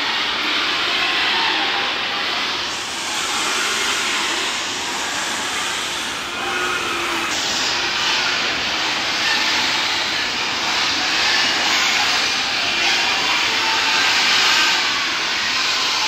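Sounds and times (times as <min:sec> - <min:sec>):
pig barn din: 0:00.0 - 0:16.0.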